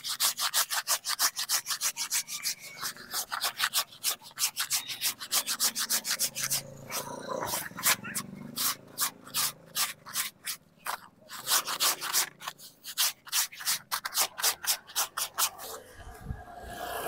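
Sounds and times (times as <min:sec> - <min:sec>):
scrubbing plastic tarp: 0:00.0 - 0:15.6.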